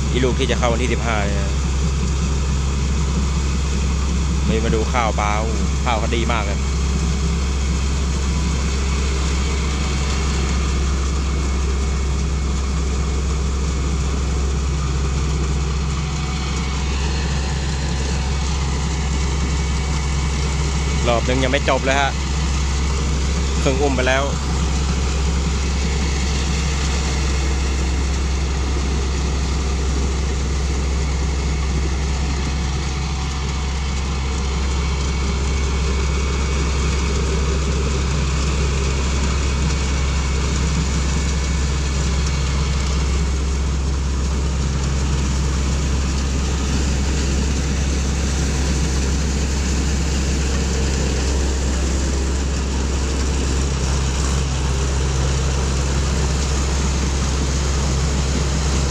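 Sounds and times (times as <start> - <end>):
combine harvester engine drone: 0.0 - 58.9.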